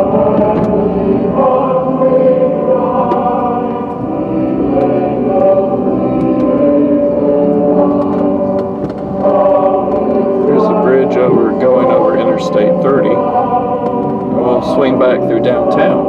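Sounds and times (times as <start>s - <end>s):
slow choir-like chords: 0.0s - 16.0s.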